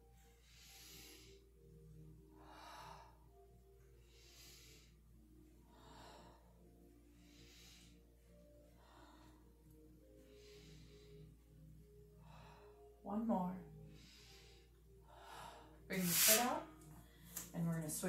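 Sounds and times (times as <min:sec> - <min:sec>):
slow deep breathing: 0:00.0 - 0:13.0, 0:13.6 - 0:17.5.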